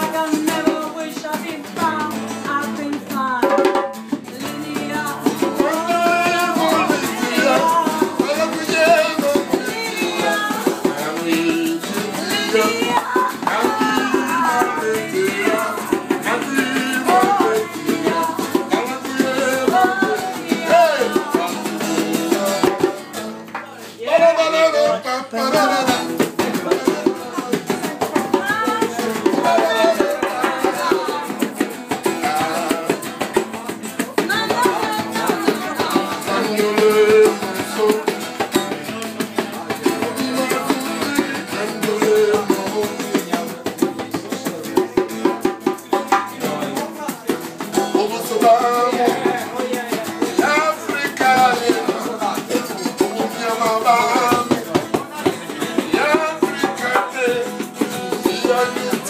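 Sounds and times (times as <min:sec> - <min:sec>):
drum beat: 0:00.0 - 0:24.4, 0:25.3 - 0:59.0
guitar: 0:00.0 - 0:59.0
person singing: 0:00.0 - 0:59.0.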